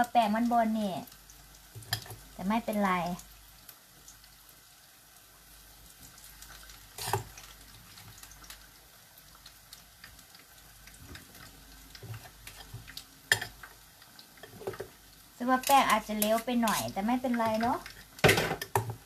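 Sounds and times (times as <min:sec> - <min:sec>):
hot oil sizzling: 0:00.0 - 0:19.0.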